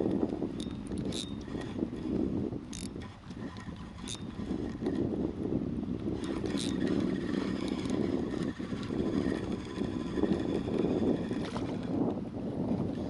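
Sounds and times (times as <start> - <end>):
small clicks: 0.0 - 5.0, 6.0 - 12.2
fishing reel whirring: 0.0 - 13.0.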